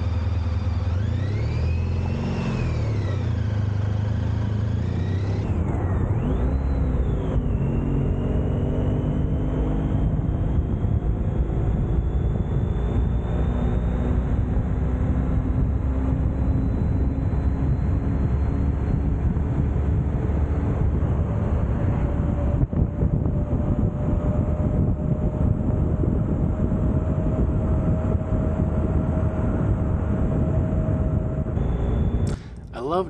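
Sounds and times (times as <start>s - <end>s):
motorcycle engine accelerating: 0.0s - 32.7s
wind rumble on microphone: 2.0s - 32.4s.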